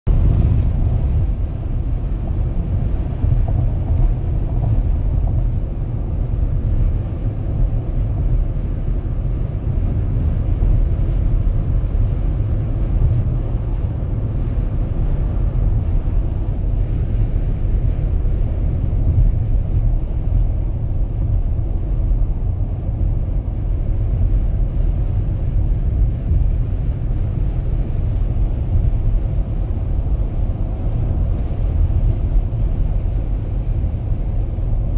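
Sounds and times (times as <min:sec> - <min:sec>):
car driving on a highway: 0:00.0 - 0:34.9.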